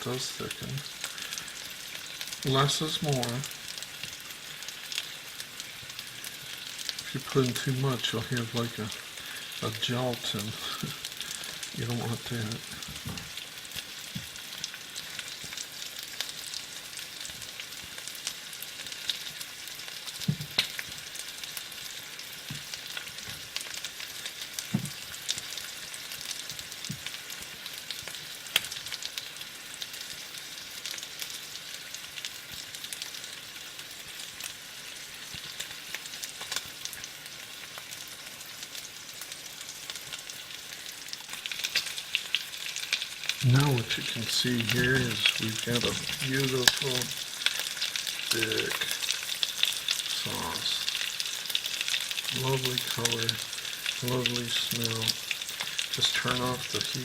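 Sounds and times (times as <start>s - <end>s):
chicken frying in oil: 0.0s - 57.0s.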